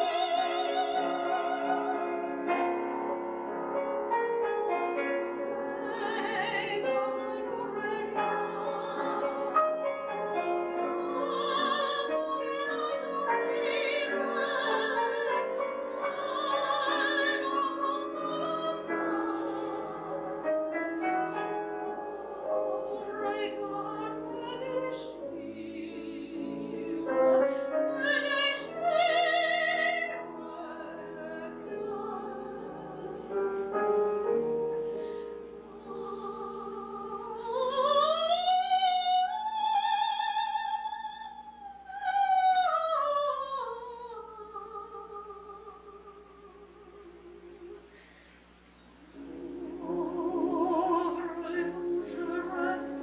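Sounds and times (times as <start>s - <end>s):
soprano singing with vibrato: 0.0s - 47.9s, 49.2s - 53.0s
piano accompaniment: 0.0s - 48.0s, 48.9s - 53.0s.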